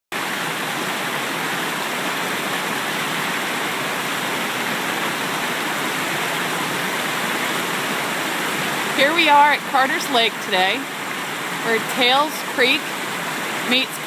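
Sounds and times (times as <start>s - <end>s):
creek rushing over rocks: 0.1s - 14.0s.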